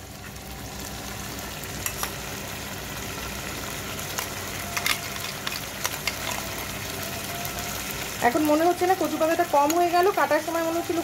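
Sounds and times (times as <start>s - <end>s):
prawns sizzling in oil: 0.0s - 11.0s.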